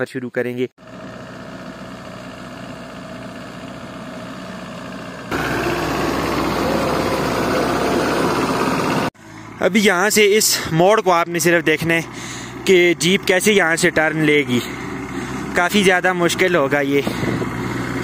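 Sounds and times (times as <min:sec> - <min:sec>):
car engine running: 0:00.8 - 0:18.0.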